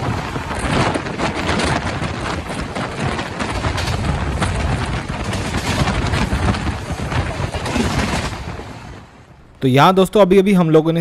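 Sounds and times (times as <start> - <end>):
rapid clicking clatter: 0.0 - 9.0
train wheels rushing on rail: 0.0 - 9.4
wind on microphone: 0.0 - 9.5.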